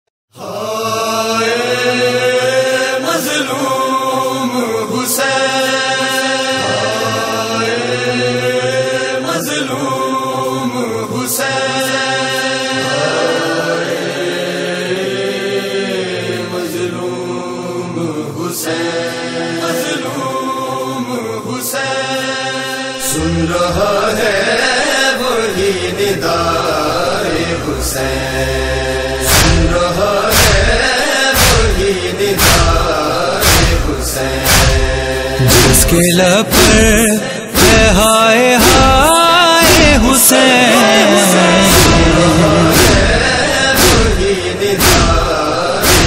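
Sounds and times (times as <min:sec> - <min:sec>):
men chanting a lament: 0:00.4 - 0:46.0.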